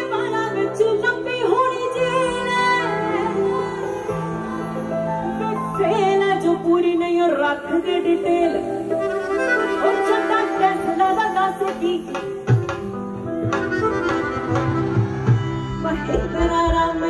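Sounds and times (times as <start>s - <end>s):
live band music over sound system: 0.0s - 17.0s.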